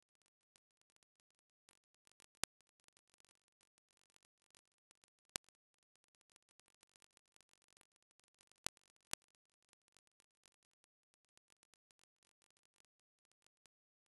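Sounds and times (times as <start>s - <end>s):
faint crackle: 0.0s - 14.0s.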